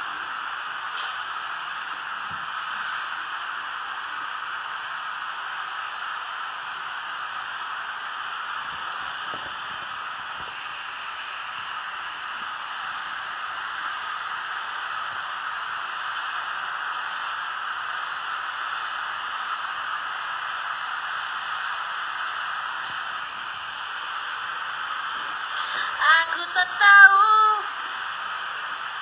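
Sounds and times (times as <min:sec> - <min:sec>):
steady static hiss: 0:00.0 - 0:29.0.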